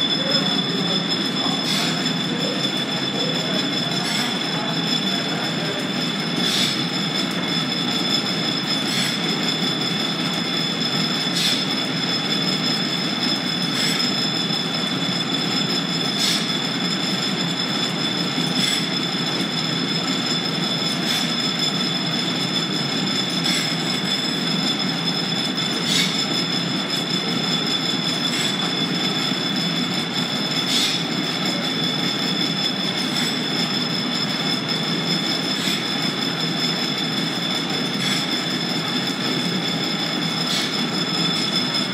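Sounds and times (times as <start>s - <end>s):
belt drive mechanical rumble: 0.0s - 41.9s
high steady whine: 0.0s - 41.9s.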